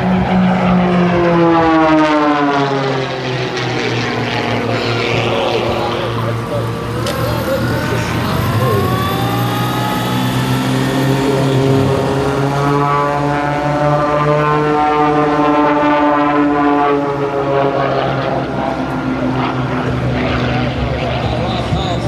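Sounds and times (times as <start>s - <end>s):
propeller planes droning overhead: 0.0s - 22.0s.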